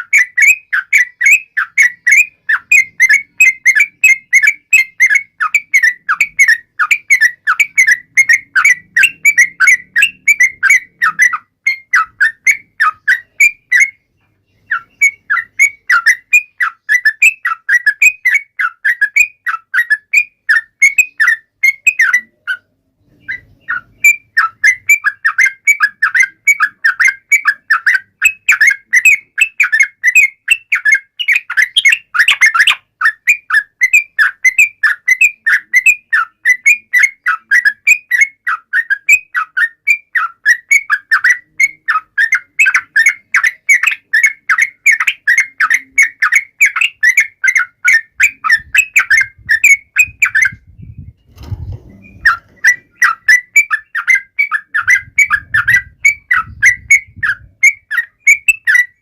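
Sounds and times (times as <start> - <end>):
bulbul whistled calls: 0.0 - 51.0, 52.0 - 59.0.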